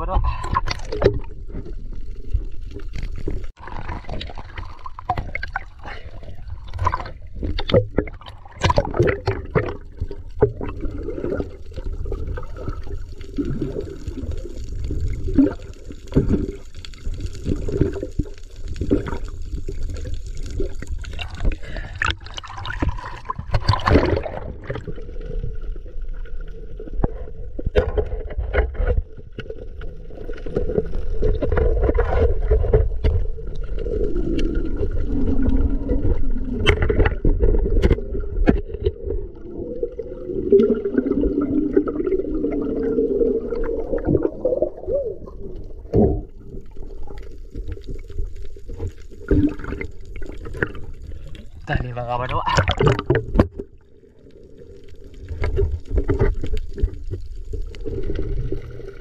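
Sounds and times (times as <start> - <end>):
water gurgling and rushing: 0.3 - 59.0.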